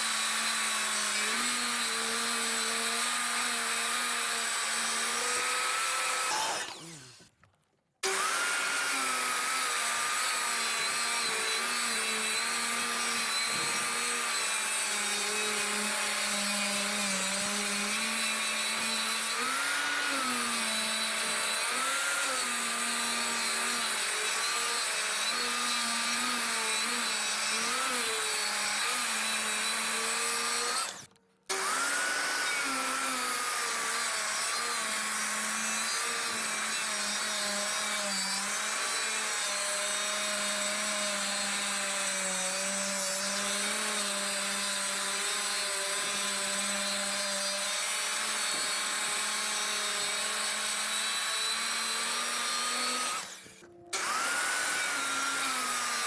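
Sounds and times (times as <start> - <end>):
power tool motor running: 0.0 - 7.4, 8.0 - 56.0.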